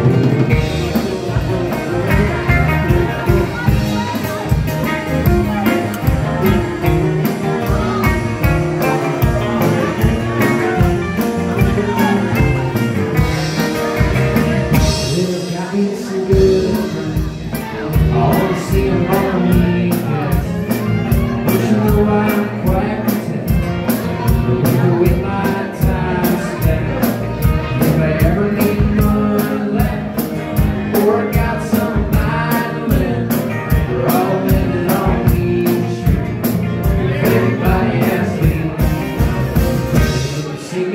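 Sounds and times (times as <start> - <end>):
drums: 0.0 - 40.9
man singing: 0.0 - 40.9
strummed acoustic guitar: 0.0 - 40.9.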